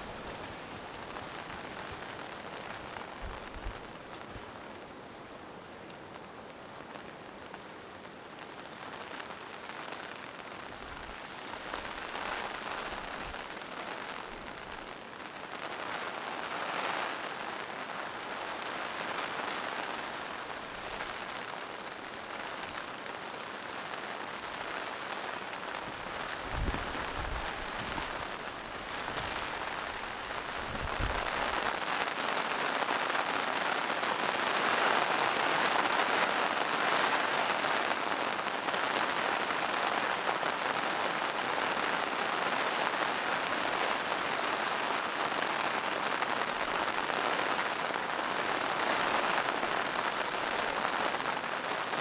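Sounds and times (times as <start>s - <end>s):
rain on leaves and rocks: 0.0s - 52.0s.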